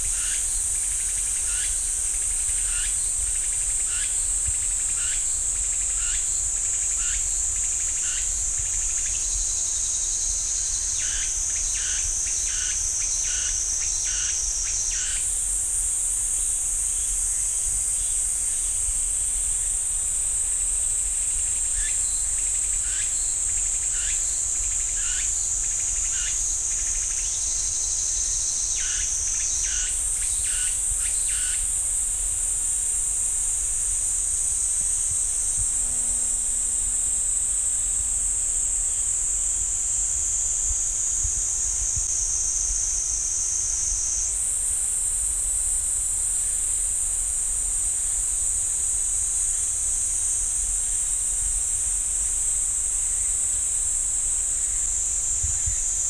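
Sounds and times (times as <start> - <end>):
cicadas droning: 0.0 - 56.0.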